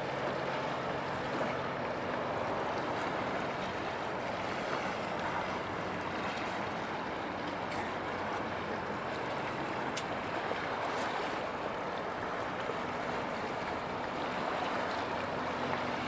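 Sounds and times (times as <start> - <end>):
low drone of ship: 0.0 - 16.0
water rushing along ship hull: 0.0 - 16.0.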